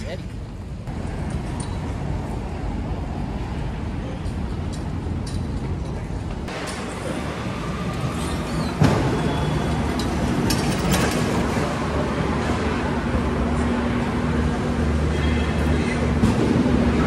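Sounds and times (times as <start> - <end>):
machinery hum and rumble: 0.0 - 17.0.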